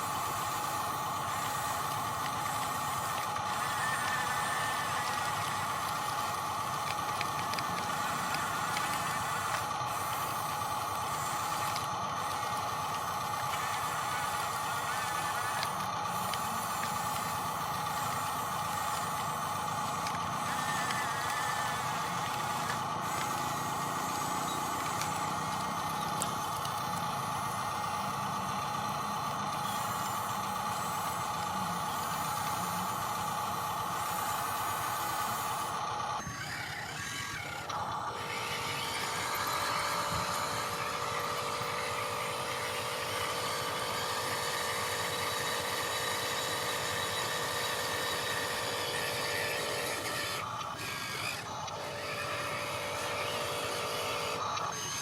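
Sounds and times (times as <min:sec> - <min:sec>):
electric motor and gear whine: 0:00.0 - 0:55.0.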